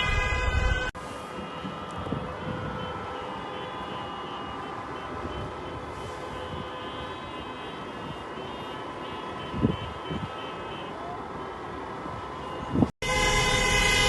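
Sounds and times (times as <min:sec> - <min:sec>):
many car horns honking: 0:00.0 - 0:14.0
traffic noise: 0:00.0 - 0:14.0.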